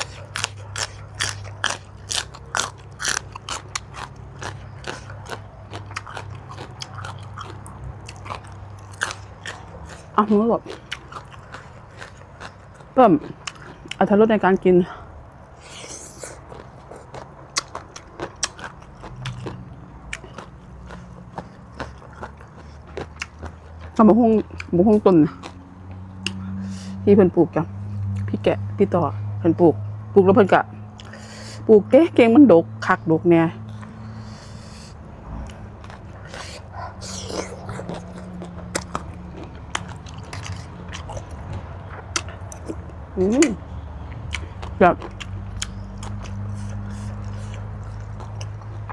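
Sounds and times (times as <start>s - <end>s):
person chewing crunchy food: 0.0s - 14.1s, 15.2s - 26.6s, 33.6s - 48.9s.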